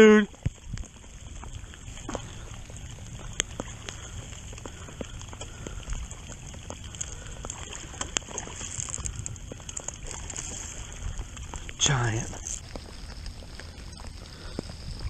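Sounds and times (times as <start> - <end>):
rain drops ticking: 0.0 - 15.0.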